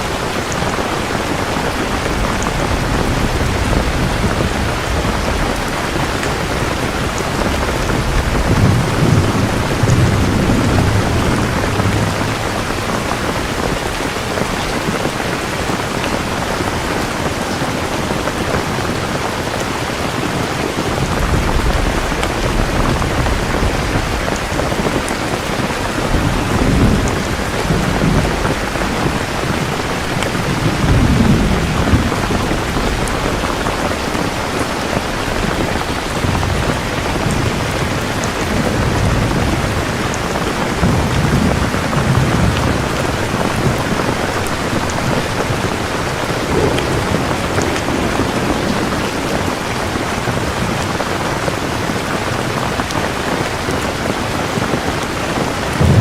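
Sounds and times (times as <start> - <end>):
distant thunder rumbling: 0.0 - 56.0
heavy rain falling: 0.0 - 56.0.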